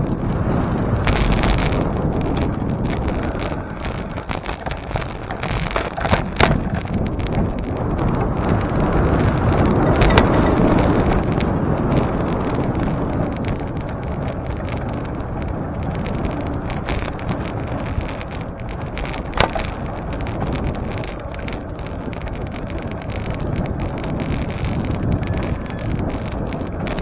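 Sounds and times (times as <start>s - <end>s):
bicycle tyres rumbling on road: 0.0s - 27.0s
wind buffeting microphone: 0.0s - 27.0s.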